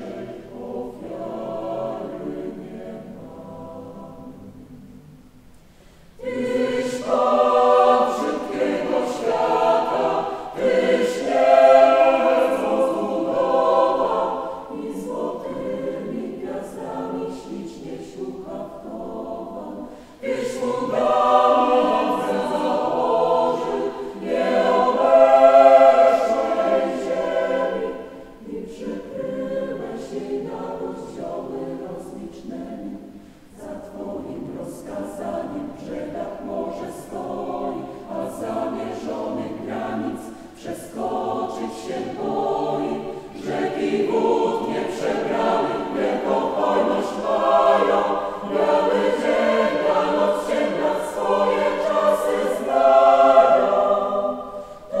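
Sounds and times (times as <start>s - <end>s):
mixed choir singing unaccompanied: 0.0s - 5.3s, 5.9s - 55.0s.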